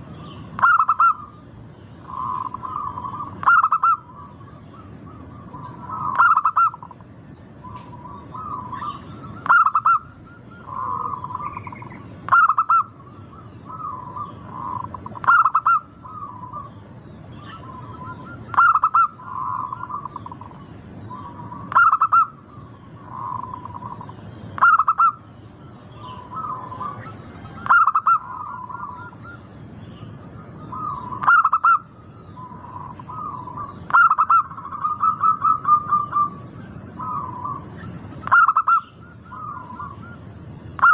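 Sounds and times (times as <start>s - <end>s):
dove cooing: 0.0s - 1.4s, 2.0s - 29.5s, 30.4s - 40.9s.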